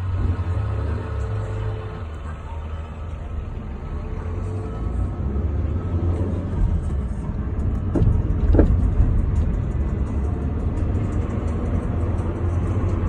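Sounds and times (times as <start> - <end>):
tyre and engine rumble: 0.0 - 13.0.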